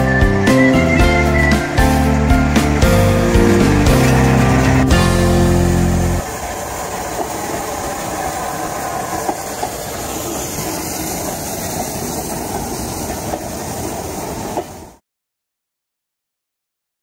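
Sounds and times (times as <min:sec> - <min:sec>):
train wheels rumbling on track: 0:00.0 - 0:15.0
wheels clicking on rail joints: 0:00.0 - 0:15.0.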